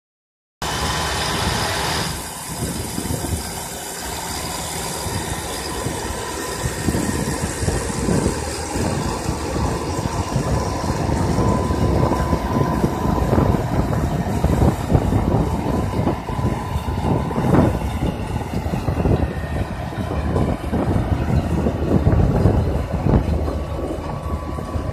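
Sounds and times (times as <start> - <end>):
tractor diesel engine running: 0.6 - 24.9.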